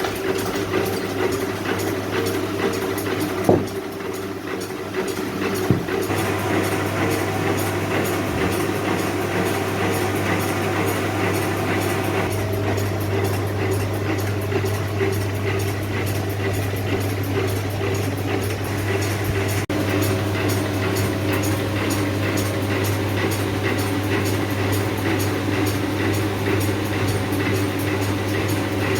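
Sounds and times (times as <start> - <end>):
workshop machinery running: 0.0 - 28.9.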